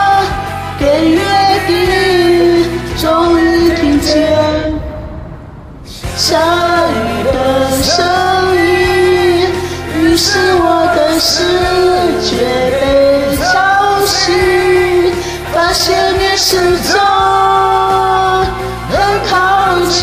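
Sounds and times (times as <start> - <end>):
pop ballad music: 0.0 - 5.2, 6.0 - 20.0.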